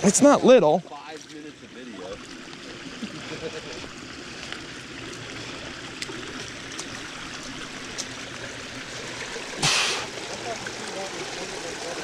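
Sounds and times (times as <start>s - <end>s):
trickling running water: 0.0s - 12.0s.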